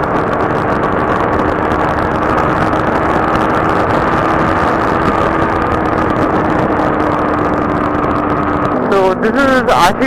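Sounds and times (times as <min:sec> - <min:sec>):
motorcycle engine cruising: 0:00.0 - 0:10.0
wind noise on microphone: 0:00.0 - 0:10.0.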